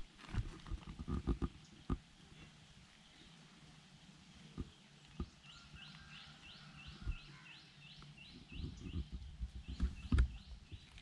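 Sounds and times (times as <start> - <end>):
bird chirping: 1.5 - 11.0.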